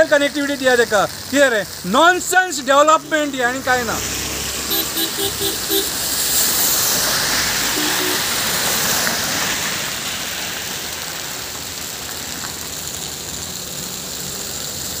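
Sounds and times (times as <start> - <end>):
traffic on wet road: 0.0 - 15.0.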